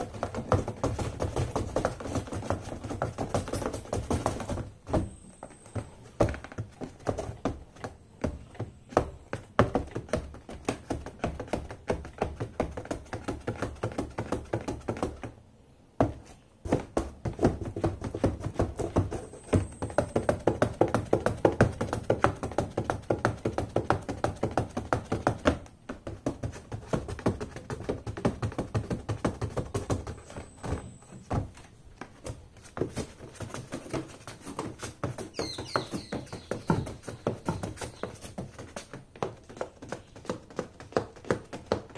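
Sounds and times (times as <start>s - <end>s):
high heels tapping on cardboard: 0.0s - 15.4s, 16.0s - 41.9s.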